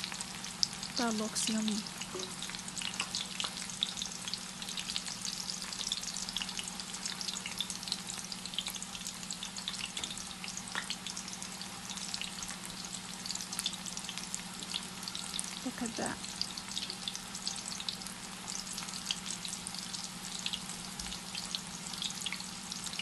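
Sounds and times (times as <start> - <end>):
deep-frying sizzle and pops: 0.0 - 23.0.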